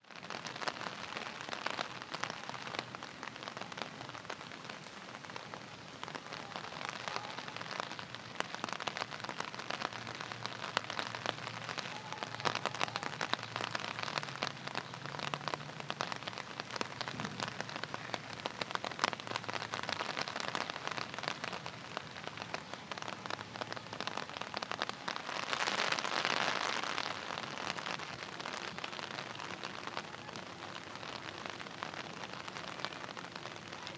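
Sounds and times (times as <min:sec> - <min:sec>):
rain patter on hard surfaces: 0:00.0 - 0:33.9.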